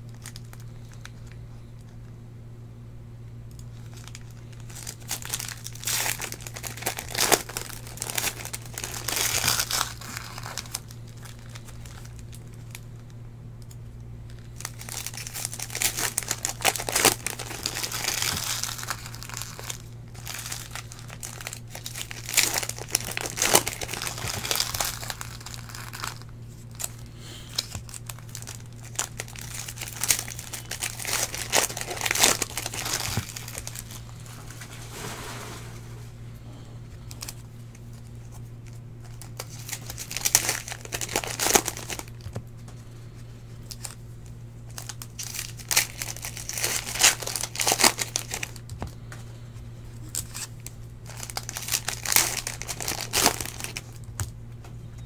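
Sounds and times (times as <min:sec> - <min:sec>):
foil wrappers crinkling and tearing: 0:00.0 - 0:02.0, 0:03.5 - 0:35.8, 0:36.8 - 0:55.0
steady low hum: 0:00.0 - 0:55.0.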